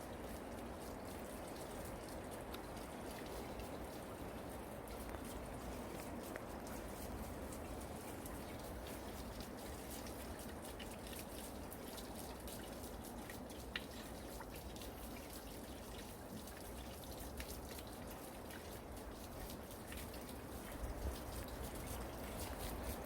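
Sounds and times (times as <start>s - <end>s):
water trickling and dripping: 0.0s - 23.0s.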